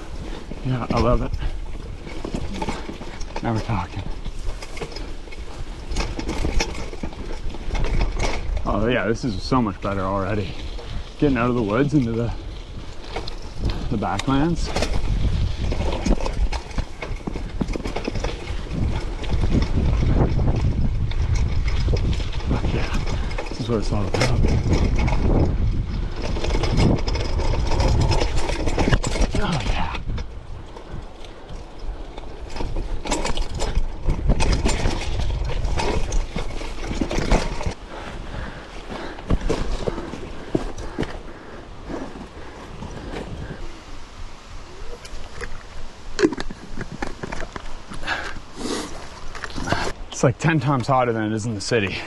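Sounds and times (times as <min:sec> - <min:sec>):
mountain bike rattling over rocks: 0:00.0 - 0:52.0.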